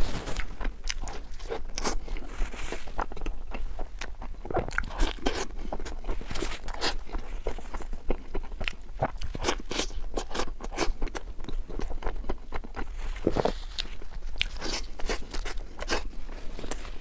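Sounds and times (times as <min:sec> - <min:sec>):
wet chewing mouth sounds: 0:00.3 - 0:17.0.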